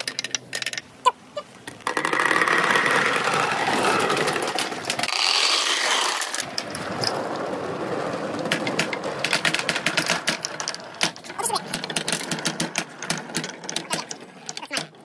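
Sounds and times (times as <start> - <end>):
balls clacking: 0.0 - 15.0
balls rolling through bamboo tubes: 0.0 - 15.0.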